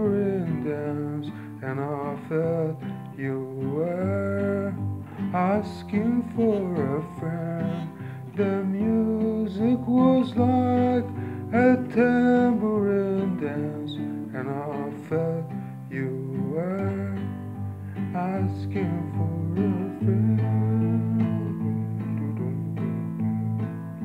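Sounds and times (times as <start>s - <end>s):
man singing: 0.0s - 23.0s
acoustic guitar strumming: 0.0s - 24.0s.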